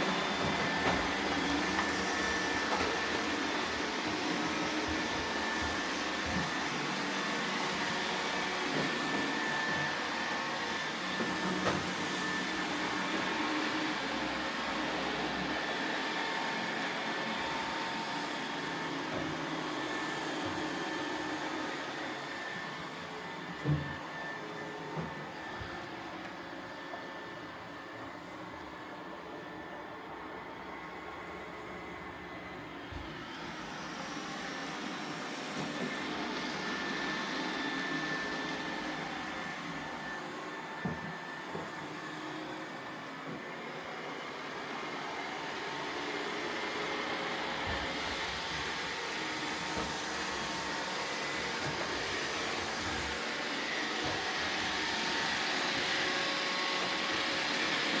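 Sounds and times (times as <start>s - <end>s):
robot vacuum whirring: 0.0s - 28.3s, 29.8s - 58.0s.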